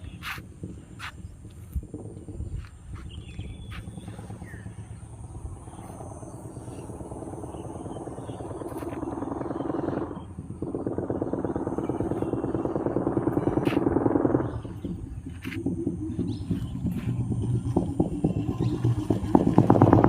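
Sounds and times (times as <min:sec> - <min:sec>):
motorcycle engine thumping: 0:00.1 - 0:20.0.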